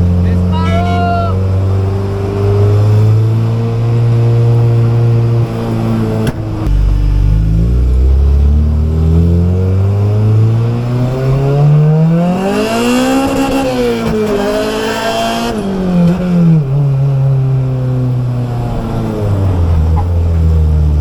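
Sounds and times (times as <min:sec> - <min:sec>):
car engine revving hard: 0:01.3 - 0:20.3.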